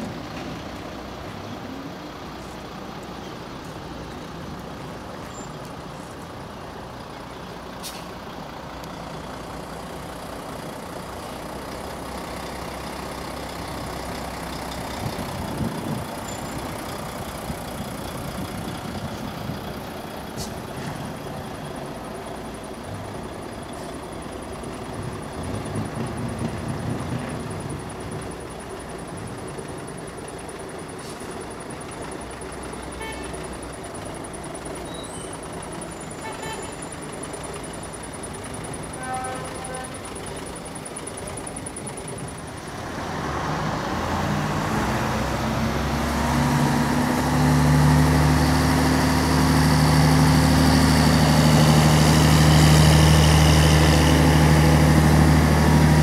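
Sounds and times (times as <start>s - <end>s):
heavy trucks driving past: 0.0s - 56.0s.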